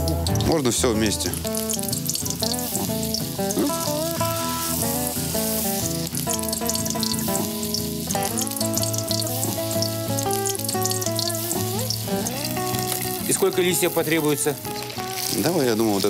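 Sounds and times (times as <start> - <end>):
background music: 0.0 - 16.0
vegetables deep-frying in oil: 0.0 - 16.0.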